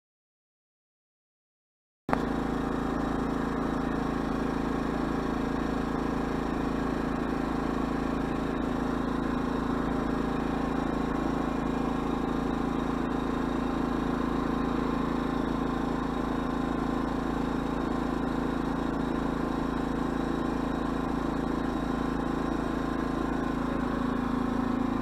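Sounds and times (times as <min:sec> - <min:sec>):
generator engine humming: 0:02.1 - 0:25.0.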